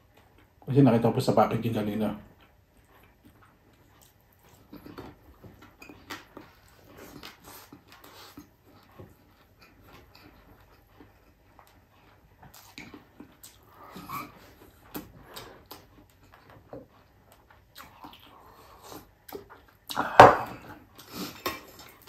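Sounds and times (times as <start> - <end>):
man chewing: 0.0 - 0.7, 2.2 - 22.0.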